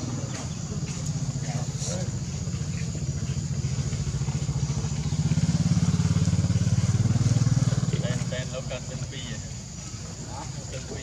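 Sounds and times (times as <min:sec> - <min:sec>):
small engine pulsing: 0:00.0 - 0:11.0.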